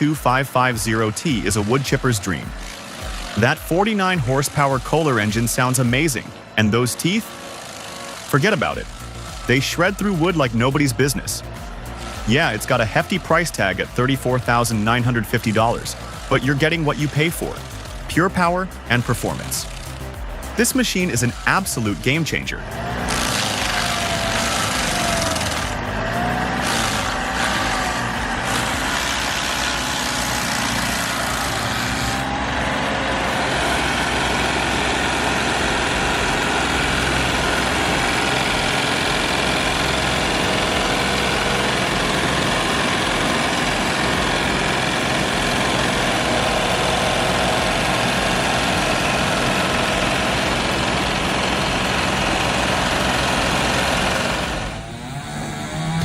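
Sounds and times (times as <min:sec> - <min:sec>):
heavy machinery engine under load: 0:00.0 - 0:56.0.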